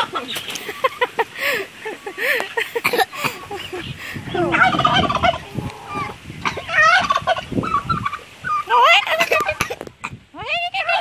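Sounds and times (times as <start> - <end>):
turkeys gobbling: 0.0 - 10.0.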